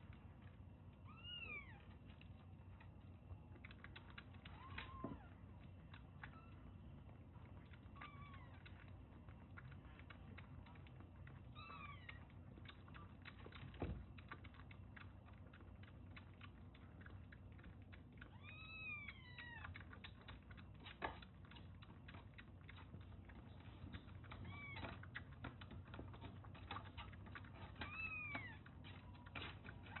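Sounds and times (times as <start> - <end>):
kitten suckling at milk bottle: 0.0 - 30.0.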